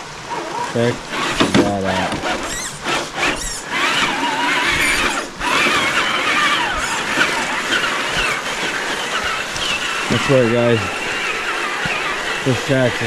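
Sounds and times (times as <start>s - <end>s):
steady background hiss: 0.0s - 13.0s
rc car electric motor whining: 0.2s - 13.0s.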